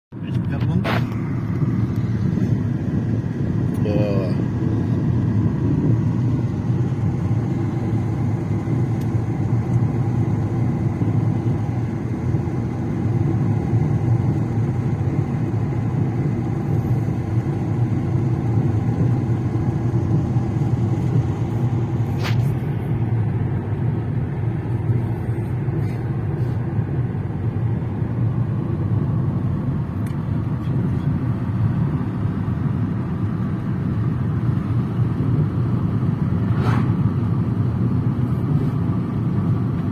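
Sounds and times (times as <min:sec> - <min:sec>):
car engine and tyre rumble: 0:00.1 - 0:39.9.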